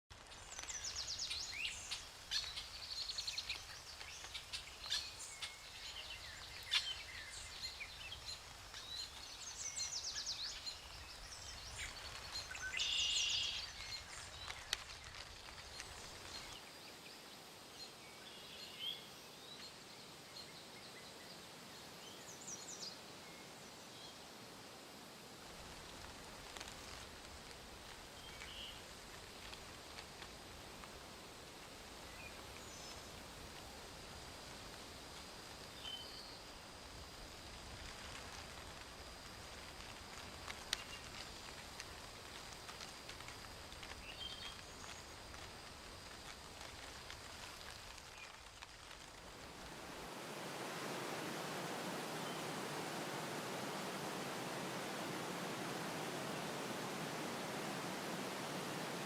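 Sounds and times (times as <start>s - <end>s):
faint background noise: 0.1s - 59.0s.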